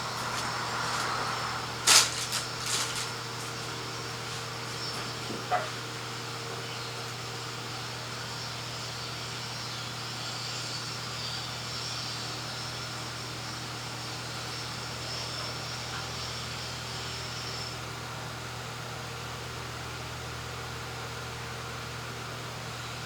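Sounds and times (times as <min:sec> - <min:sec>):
machine hum with hiss: 0:00.0 - 0:23.0.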